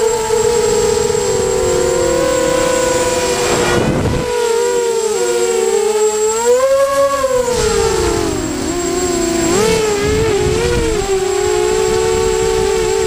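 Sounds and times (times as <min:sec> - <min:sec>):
wind noise: 0:00.0 - 0:05.3, 0:06.4 - 0:13.0
drone propellers whining: 0:00.0 - 0:13.0.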